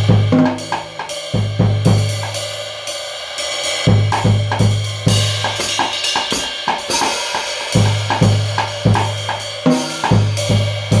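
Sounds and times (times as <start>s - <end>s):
bass drum and snare strokes: 0.0s - 11.0s
cymbal wash: 0.0s - 11.0s.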